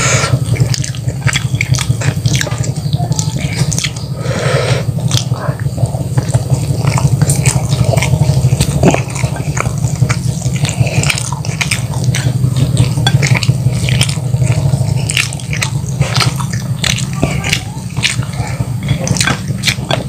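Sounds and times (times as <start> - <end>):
chewing crispy fried chicken: 0.0 - 20.0
steady low hum: 0.0 - 20.0
wet mouth clicks: 0.0 - 20.0.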